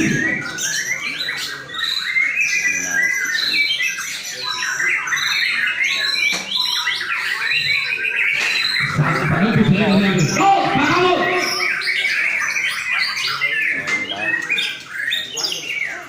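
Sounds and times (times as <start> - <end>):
birds whistling and chattering: 0.0 - 16.0.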